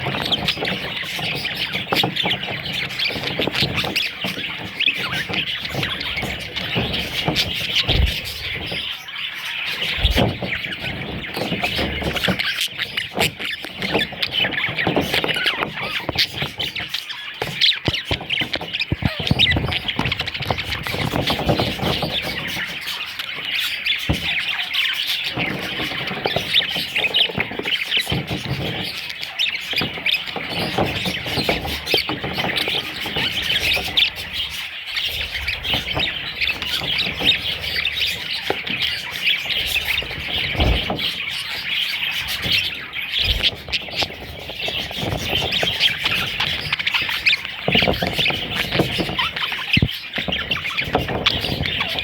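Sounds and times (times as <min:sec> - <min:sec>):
budgerigars chattering and squawking: 0:00.0 - 0:52.0.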